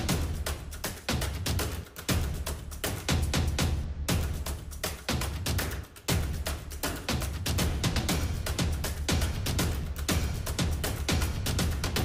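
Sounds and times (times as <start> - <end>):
music with heavy beat and bass: 0.0 - 12.0.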